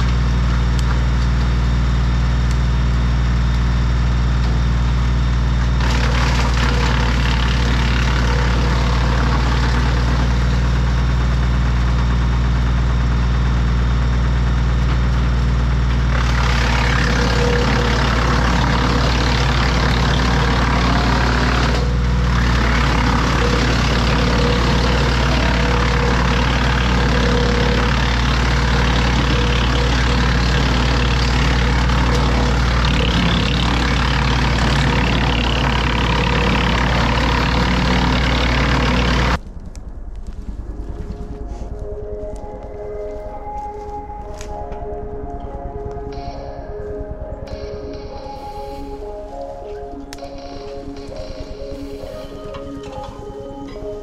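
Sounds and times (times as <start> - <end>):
branches grinding in chipper: 0.0 - 44.7
tractor engine running: 0.0 - 54.0.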